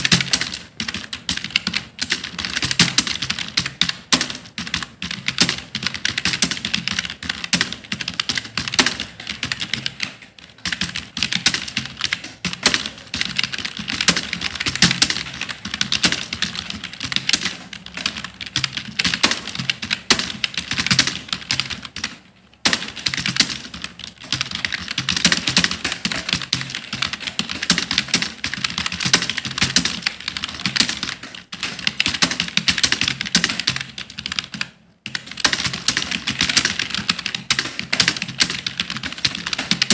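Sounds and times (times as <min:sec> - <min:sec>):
typing on computer keyboard: 0:00.0 - 0:39.9.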